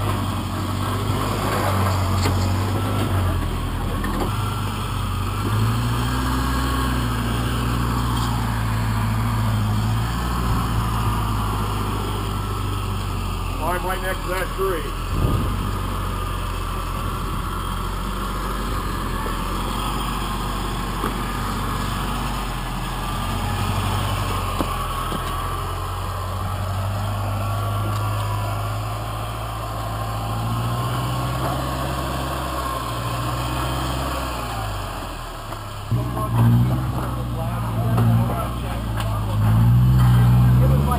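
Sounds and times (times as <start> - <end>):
buggy engine droning: 0.0 - 40.9.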